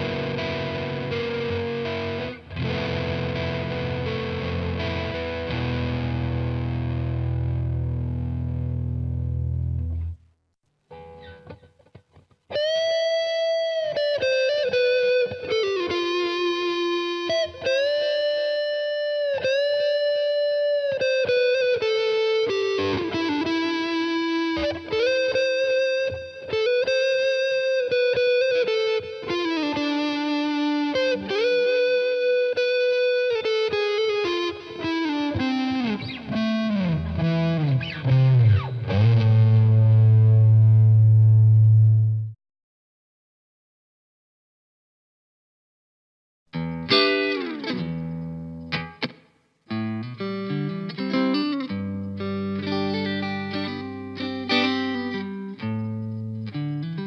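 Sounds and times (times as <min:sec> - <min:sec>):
distorted electric guitar lead: 0:00.0 - 0:10.2, 0:10.9 - 0:42.4, 0:46.6 - 0:57.0.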